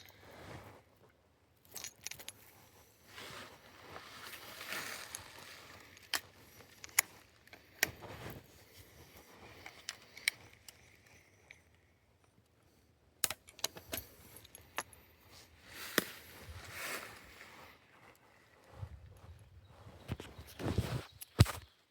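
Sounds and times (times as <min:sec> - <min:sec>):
soft rustling: 0:02.2 - 0:12.8, 0:13.8 - 0:21.6.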